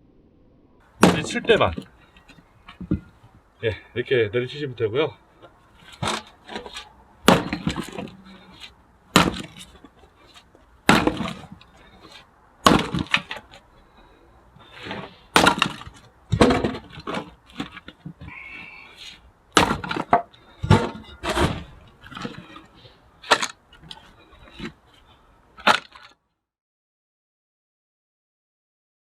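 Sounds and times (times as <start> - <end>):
axe splitting firewood: 0.9 - 3.4, 5.3 - 26.2.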